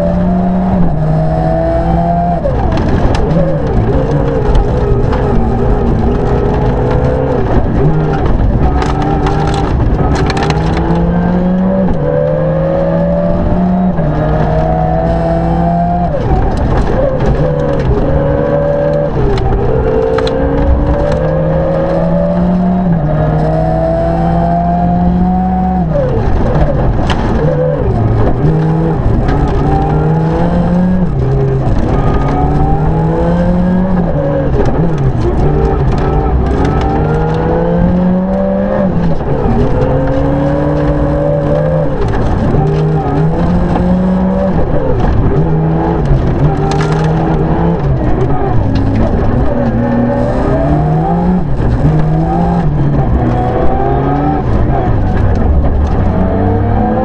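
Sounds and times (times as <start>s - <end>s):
rally car engine at full throttle: 0.0s - 57.0s.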